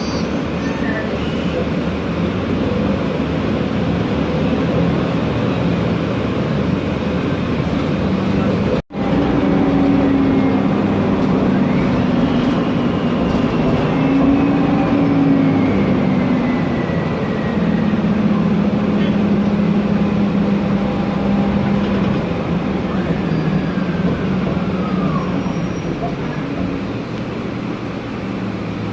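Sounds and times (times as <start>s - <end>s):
bus engine drone: 0.0s - 28.9s.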